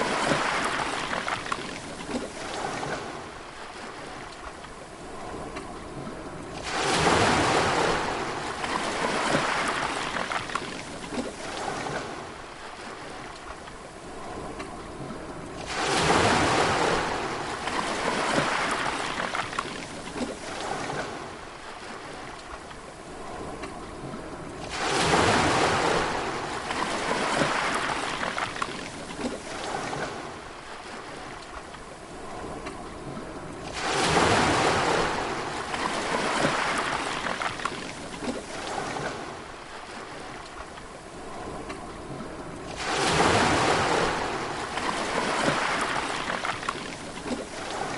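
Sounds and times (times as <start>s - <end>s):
sea waves crashing on shore: 0.0s - 47.9s
wave wash: 0.0s - 47.9s.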